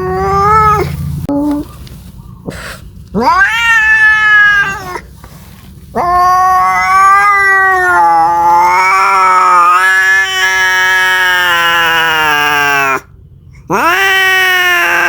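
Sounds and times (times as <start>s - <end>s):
cat yowling: 0.0s - 1.7s, 3.2s - 5.1s, 5.9s - 13.1s, 13.7s - 15.0s.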